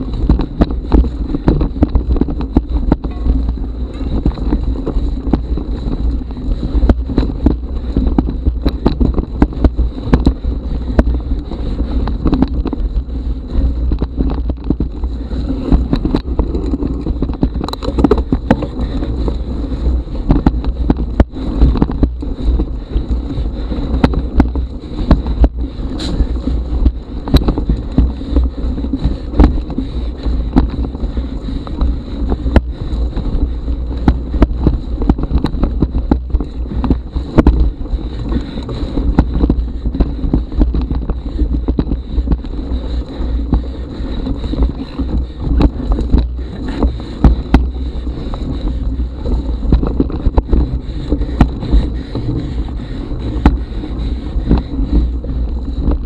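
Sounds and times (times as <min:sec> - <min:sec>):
bike knocks and rattles: 0:00.0 - 0:56.0
bike rumbling over trail: 0:00.0 - 0:56.0.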